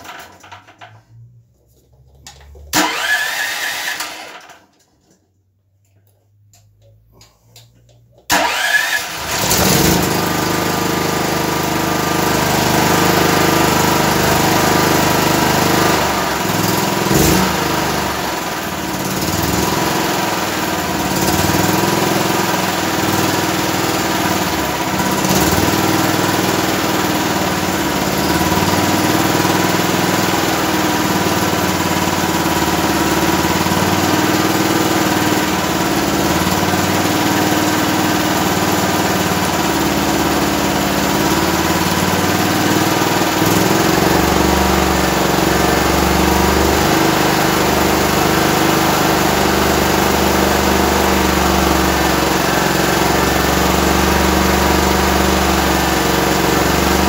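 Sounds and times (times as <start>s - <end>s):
generator engine droning: 2.3s - 4.6s, 7.8s - 57.0s.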